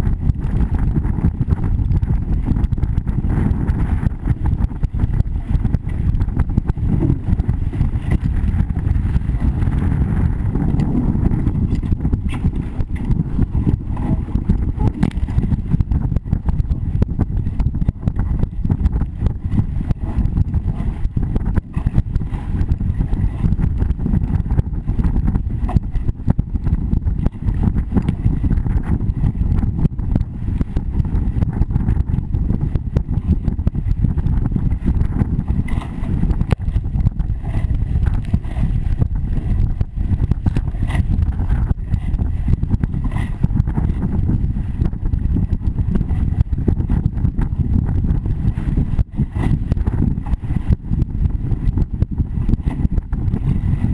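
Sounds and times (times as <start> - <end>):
water rushing along hull: 0.0 - 53.9
wind buffeting microphone: 0.0 - 53.9.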